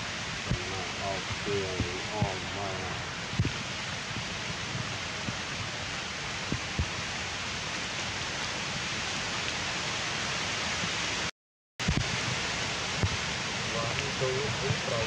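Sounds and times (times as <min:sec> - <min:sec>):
forest ambience hiss: 0:00.0 - 0:11.3, 0:11.9 - 0:15.0.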